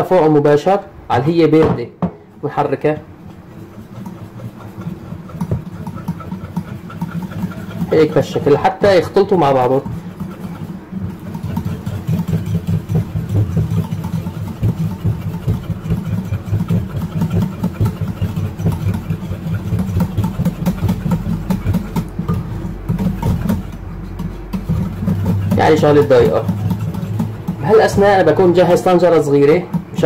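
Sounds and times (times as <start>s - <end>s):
whisk scraping and clinking bowl: 3.2s - 30.0s.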